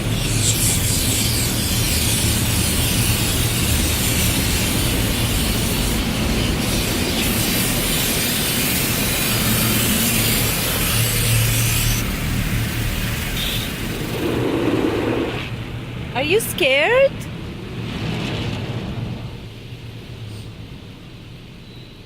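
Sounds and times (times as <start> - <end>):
car wash machinery rushing: 0.0 - 21.6.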